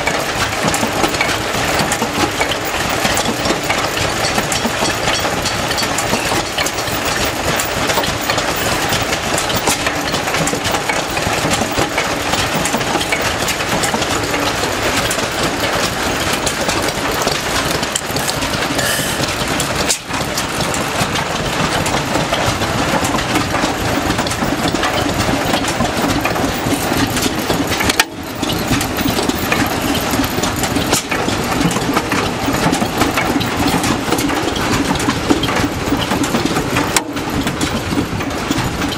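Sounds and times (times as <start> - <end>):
stationary engines idling: 0.0 - 38.9.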